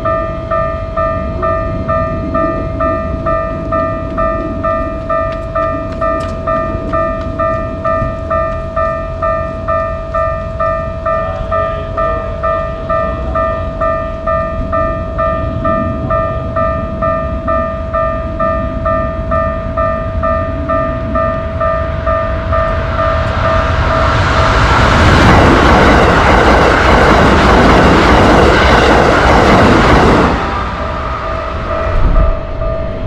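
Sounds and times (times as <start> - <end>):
railroad crossing bell: 0.0 - 33.0
train wheels rumbling on rails: 0.0 - 33.0.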